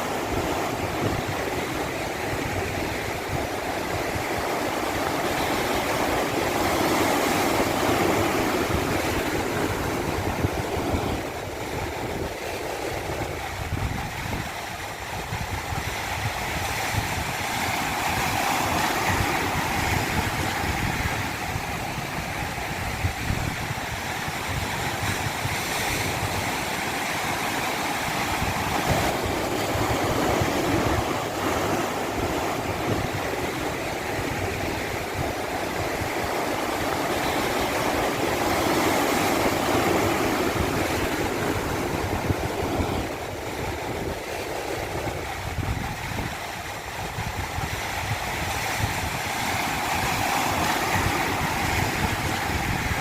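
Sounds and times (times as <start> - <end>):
stream rushing over cascade: 0.0 - 53.0.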